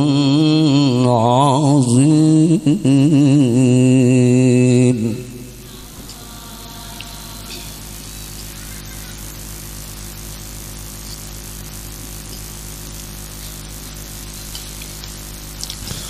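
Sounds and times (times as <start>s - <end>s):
electrical buzz and hiss: 0.0s - 16.0s
low mains hum: 0.0s - 16.0s.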